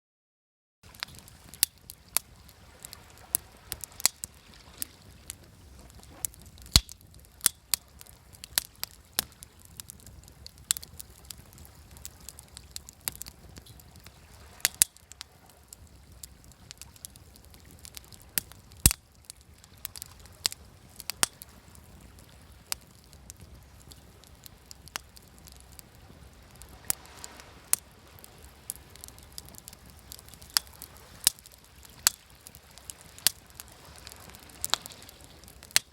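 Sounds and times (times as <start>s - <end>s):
wood fire crackling: 0.8s - 35.9s
waves washing: 0.9s - 35.9s.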